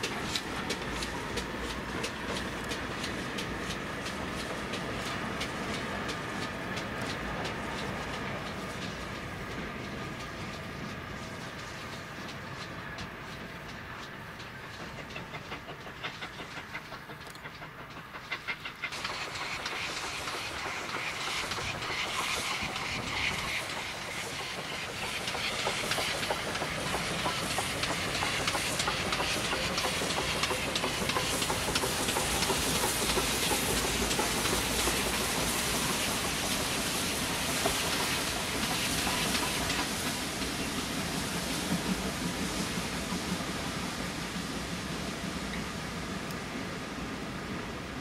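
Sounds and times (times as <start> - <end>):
steam locomotive hiss and exhaust: 0.0 - 48.0
train wheels clicking over rail joints: 0.0 - 48.0.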